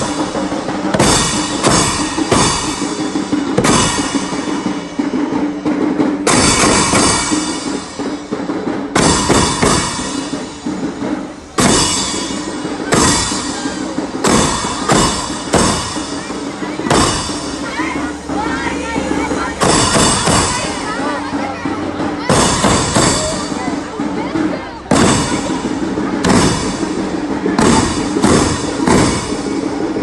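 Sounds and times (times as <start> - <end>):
frame drums beaten: 0.0 - 30.0.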